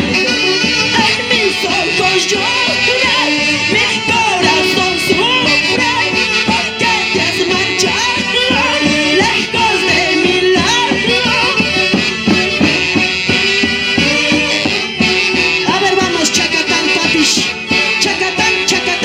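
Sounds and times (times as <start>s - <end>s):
live band playing lively folk music: 0.0s - 19.0s.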